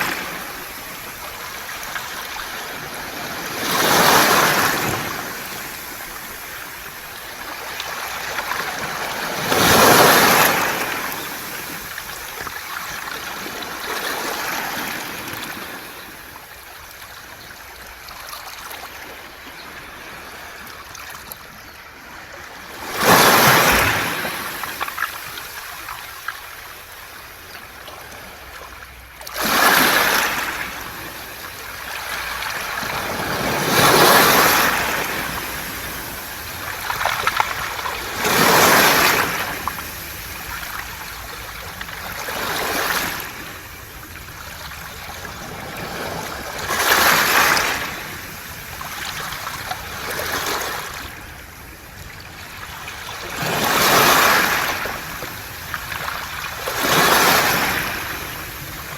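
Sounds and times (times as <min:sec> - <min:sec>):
waves breaking on pebble beach: 0:00.0 - 0:16.3, 0:22.2 - 0:27.4, 0:29.2 - 0:58.9.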